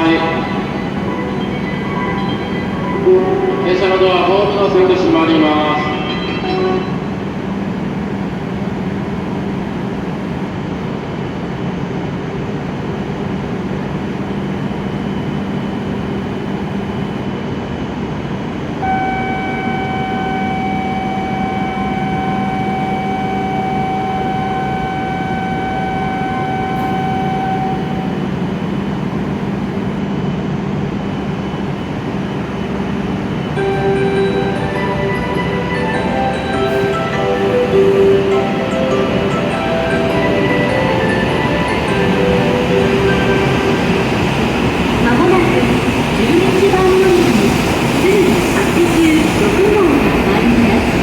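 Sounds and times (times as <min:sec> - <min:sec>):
train running noise: 0:00.0 - 0:51.0.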